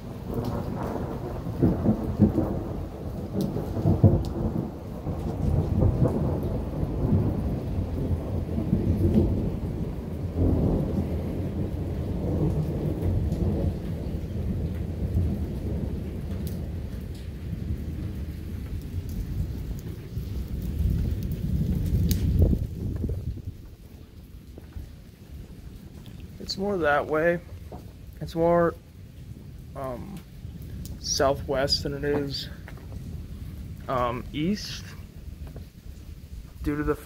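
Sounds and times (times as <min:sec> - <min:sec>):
thunder rumbling: 0:00.0 - 0:37.0.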